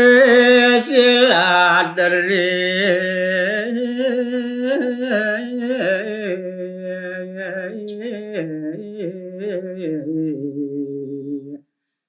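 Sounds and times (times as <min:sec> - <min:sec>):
man singing unaccompanied: 0:00.0 - 0:11.7.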